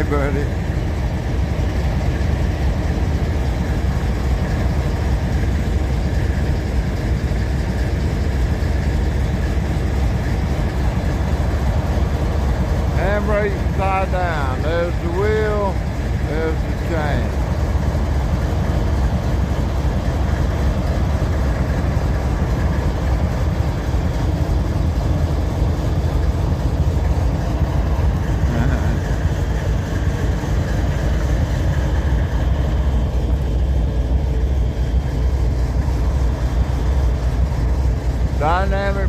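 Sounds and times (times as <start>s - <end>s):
locomotive idling: 0.0s - 39.0s.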